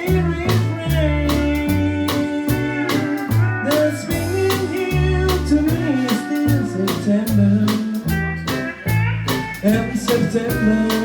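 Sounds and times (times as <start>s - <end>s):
pedal steel guitar sliding notes: 0.0s - 11.0s
person singing: 0.0s - 11.0s
small band playing swing pop: 0.0s - 11.0s.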